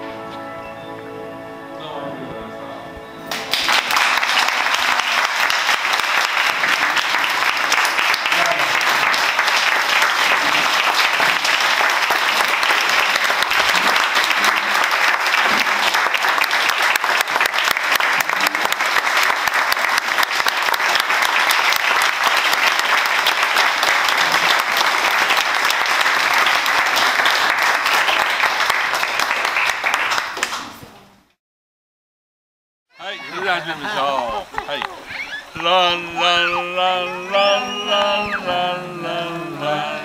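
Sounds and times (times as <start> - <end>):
audience applauding: 3.3 - 30.8, 33.0 - 40.0.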